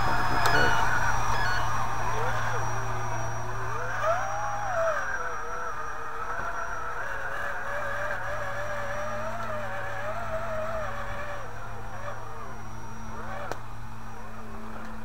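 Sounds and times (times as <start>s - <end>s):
electric motors whining: 0.0s - 15.0s
steady low hum: 0.0s - 15.0s.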